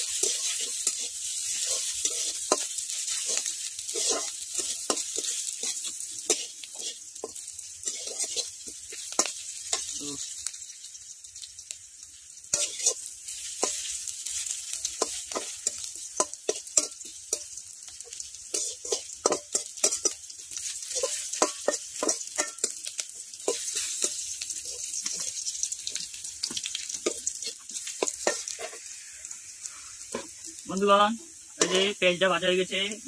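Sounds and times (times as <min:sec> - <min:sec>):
metal spatula scraping a pan: 0:00.0 - 0:10.0, 0:12.5 - 0:17.6, 0:18.2 - 0:30.5, 0:31.5 - 0:32.1
onions sizzling in hot oil: 0:00.0 - 0:33.0.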